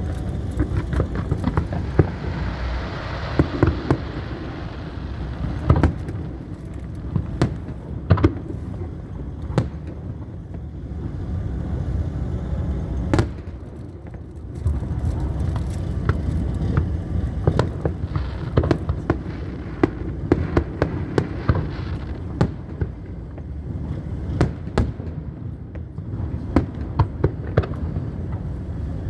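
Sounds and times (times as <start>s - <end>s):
fireworks bangs: 0.0s - 11.9s, 12.5s - 29.0s
continuous low rumble: 0.0s - 29.0s
fireworks hissing and crackling: 0.0s - 29.0s.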